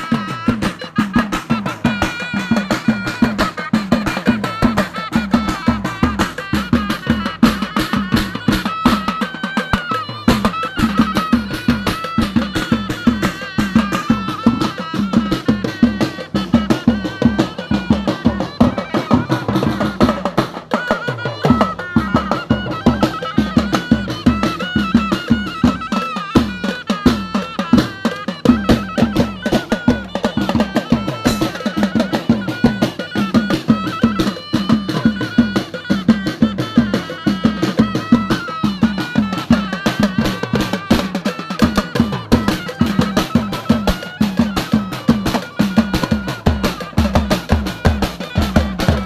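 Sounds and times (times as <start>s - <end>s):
drums beating fast rhythm: 0.0s - 49.0s
high wavering melody: 0.0s - 49.0s.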